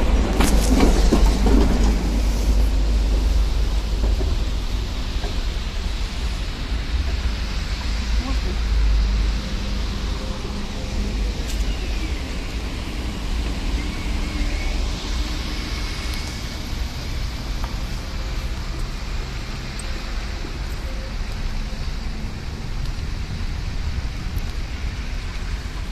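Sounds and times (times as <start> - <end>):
cars driving on wet road: 0.0 - 25.9.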